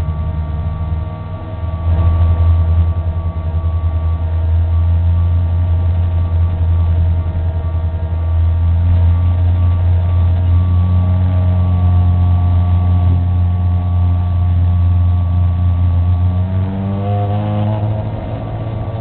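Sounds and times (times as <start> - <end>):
faint whine: 0.0 - 19.0
race car engine droning: 0.0 - 19.0.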